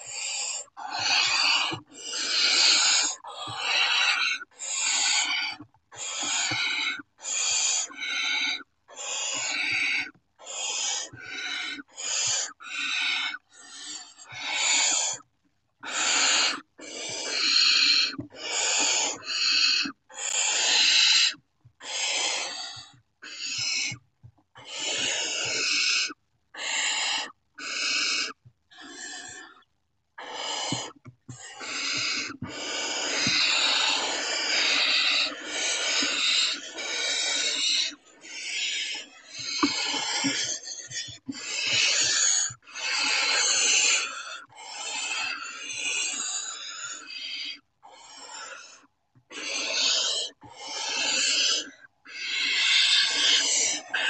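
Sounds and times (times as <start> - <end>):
owl chicks hissing calls: 0.0 - 15.2, 15.8 - 24.0, 24.6 - 29.6, 30.2 - 54.0.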